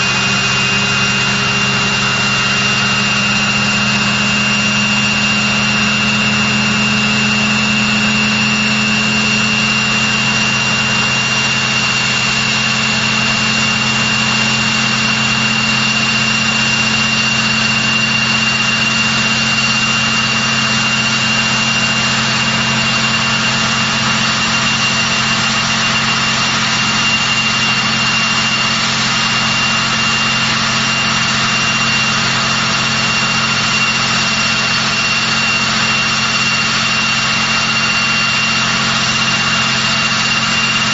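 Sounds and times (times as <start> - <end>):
turboprop engines running: 0.0 - 40.9.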